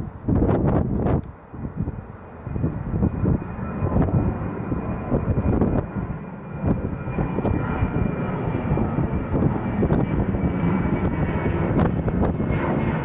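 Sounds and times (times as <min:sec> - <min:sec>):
jet engines at takeoff power: 0:00.0 - 0:13.0.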